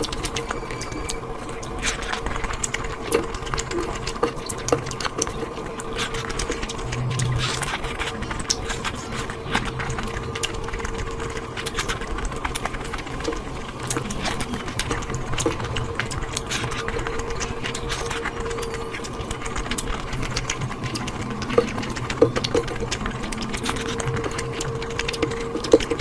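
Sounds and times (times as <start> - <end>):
faint steady hum: 0.0 - 26.0
wet chewing: 0.0 - 26.0.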